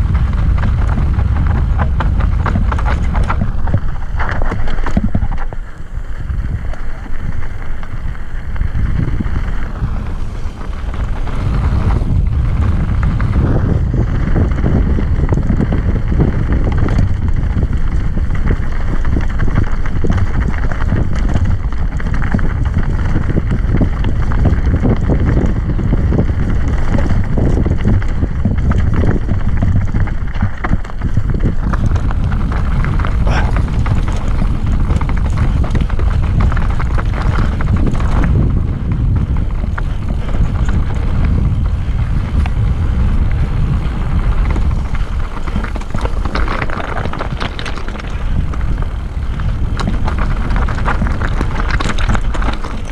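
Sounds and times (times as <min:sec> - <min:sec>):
mountain bike rattling on trail: 0:00.0 - 0:52.9
wind buffeting microphone: 0:00.0 - 0:52.9.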